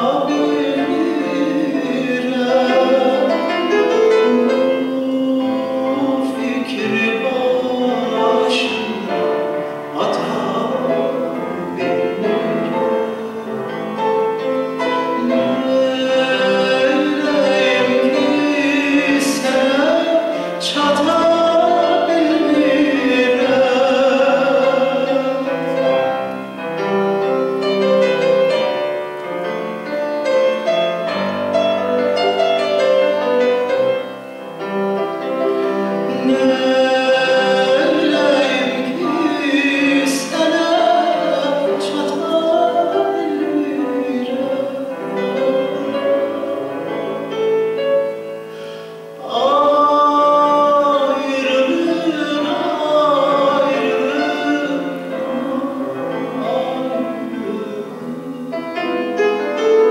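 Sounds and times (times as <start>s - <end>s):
man singing operatically: 0.0s - 26.3s, 35.9s - 47.8s, 49.0s - 59.9s
grand piano: 0.0s - 59.9s.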